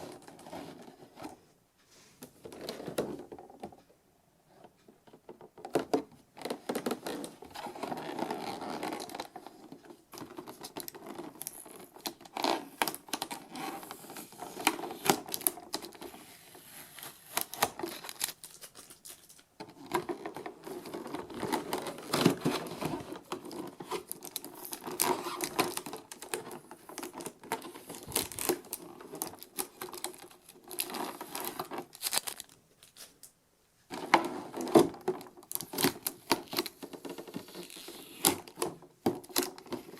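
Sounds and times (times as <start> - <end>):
plastic and cardboard crinkling: 0.0 - 1.4, 5.2 - 39.9
clicks and scratches: 4.6 - 39.9.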